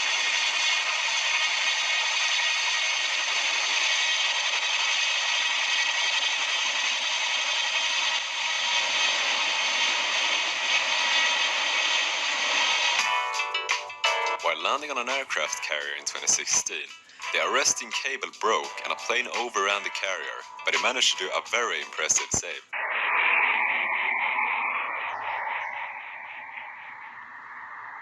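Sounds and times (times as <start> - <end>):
helicopter rotor and turbine noise: 0.0 - 28.0.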